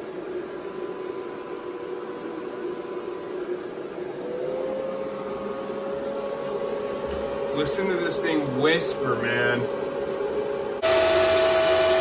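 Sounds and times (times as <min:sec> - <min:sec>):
cooling fans whirring: 0:00.0 - 0:12.0
steady hum: 0:00.0 - 0:12.0.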